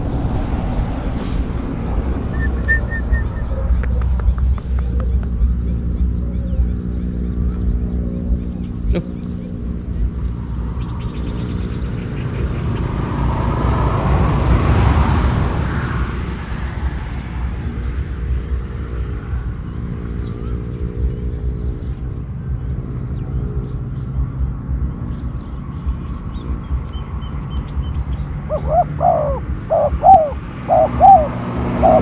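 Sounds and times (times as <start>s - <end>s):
motor vehicle passing: 0.0s - 32.0s.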